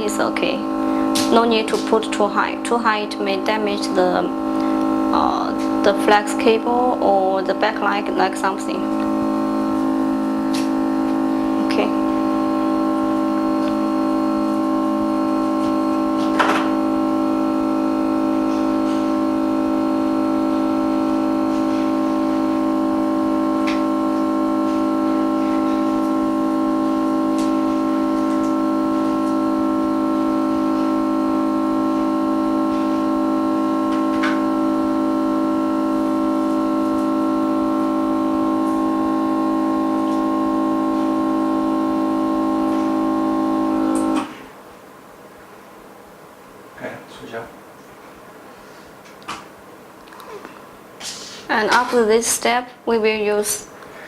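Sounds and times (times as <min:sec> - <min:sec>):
held chord: 0:00.0 - 0:44.3.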